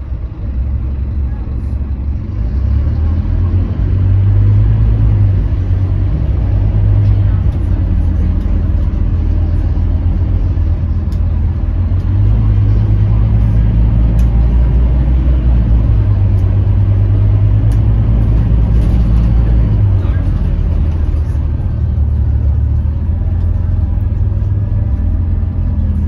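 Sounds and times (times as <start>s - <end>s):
bus diesel engine drone: 0.0s - 26.0s
road noise: 0.0s - 26.0s.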